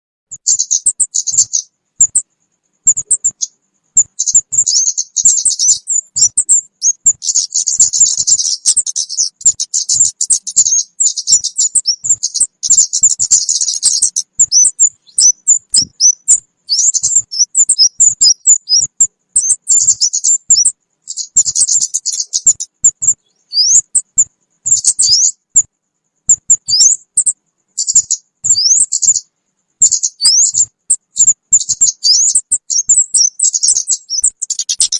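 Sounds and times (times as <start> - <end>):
high bird chirps and twitters: 0.3 - 34.9.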